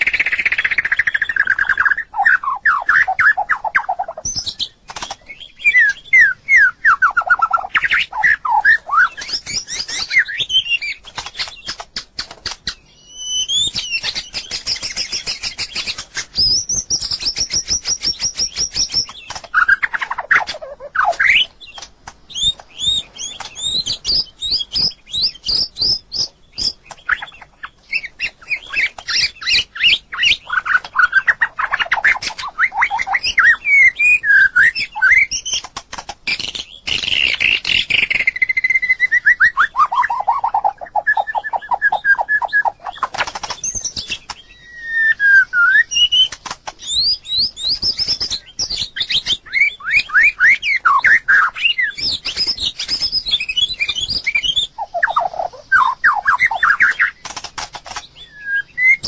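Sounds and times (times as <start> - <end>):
bird singing whistled phrases: 0.0 - 35.7, 36.3 - 57.2, 58.2 - 59.0.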